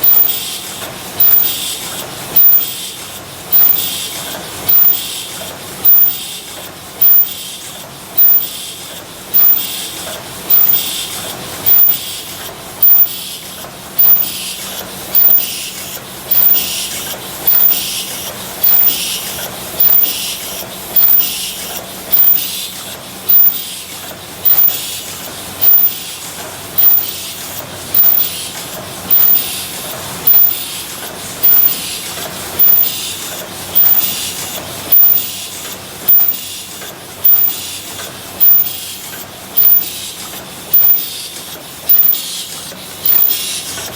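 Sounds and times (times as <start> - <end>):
machine hissing clack: 0.0 - 43.9
steady mechanical hum: 0.0 - 43.9.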